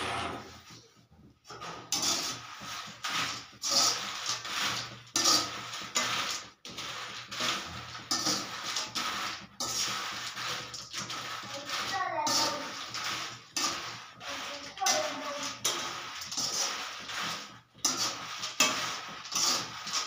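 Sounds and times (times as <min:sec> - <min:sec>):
metal spatula scraping gravel: 0:01.5 - 0:20.0.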